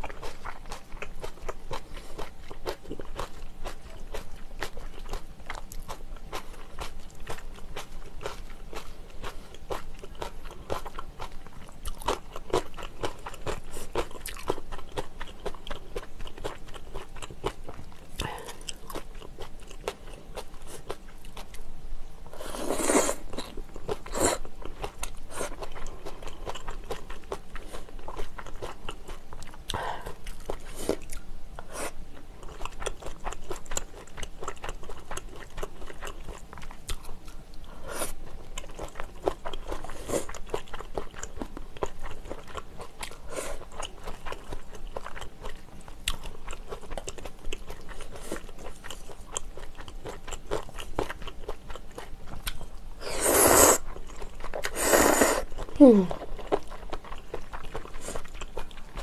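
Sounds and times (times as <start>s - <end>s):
chewing and slurping noodles: 0.0s - 21.6s, 22.3s - 59.0s.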